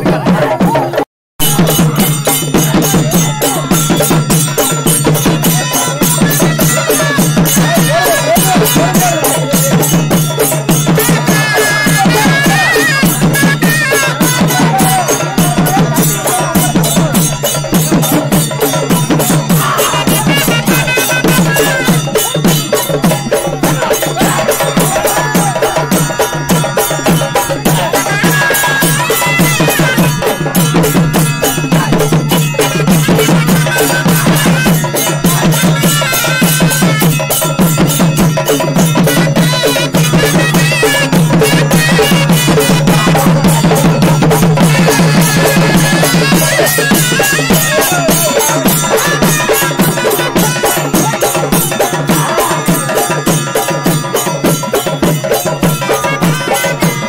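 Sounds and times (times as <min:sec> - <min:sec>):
fast traditional drumbeat: 0:00.0 - 0:57.0.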